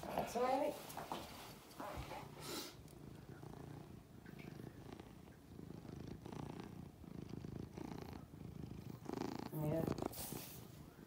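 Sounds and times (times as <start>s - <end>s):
cat purring: 1.4s - 11.0s.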